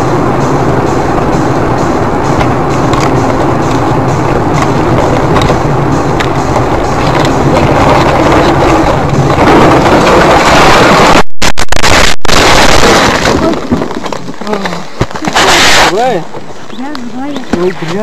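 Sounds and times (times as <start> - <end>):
vehicle road and tyre noise: 0.0 - 18.0.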